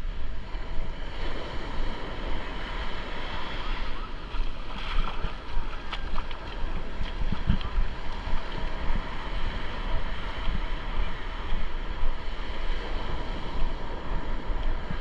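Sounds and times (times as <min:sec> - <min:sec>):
ocean surf washing ashore: 0:00.0 - 0:15.0
wind buffeting the microphone: 0:00.0 - 0:15.0.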